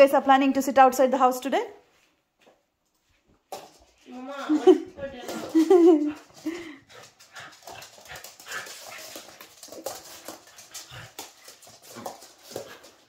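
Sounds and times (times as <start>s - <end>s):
puppies scuffling: 2.0s - 13.0s
claws clicking on hard floor: 2.4s - 13.0s.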